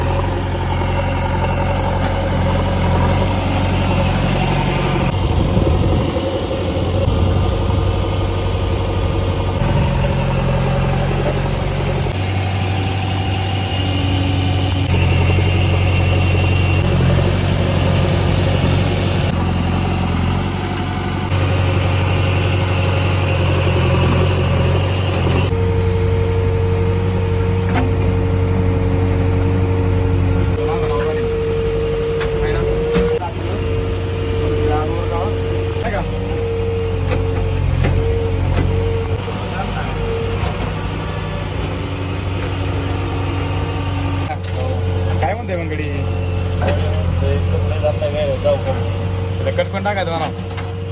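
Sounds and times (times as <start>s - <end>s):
diesel engines running: 0.0s - 50.9s.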